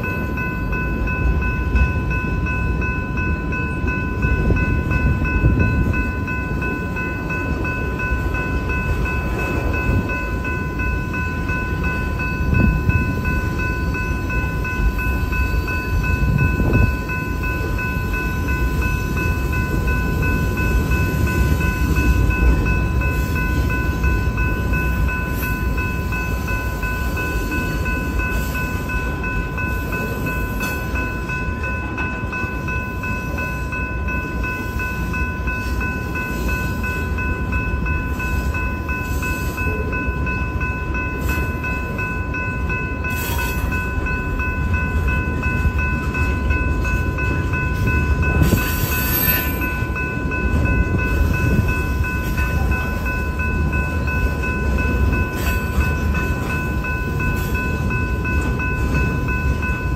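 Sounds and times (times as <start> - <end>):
crossing warning bell ringing: 0.0 - 59.9
train wheels rumbling on rail: 0.0 - 59.9.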